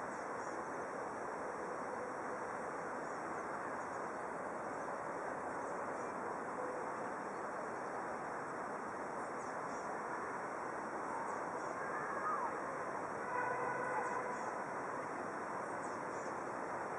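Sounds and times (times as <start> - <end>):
outdoor background noise: 0.0 - 16.9.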